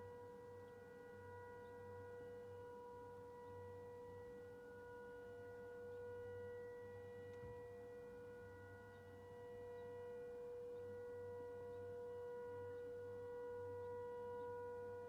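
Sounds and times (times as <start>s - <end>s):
faint air-raid sirens: 0.3s - 15.0s.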